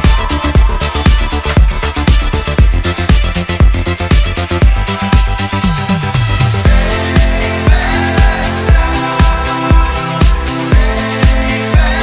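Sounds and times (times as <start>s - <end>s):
deep kick drums: 0.0s - 12.0s
steady bassline: 0.0s - 12.0s.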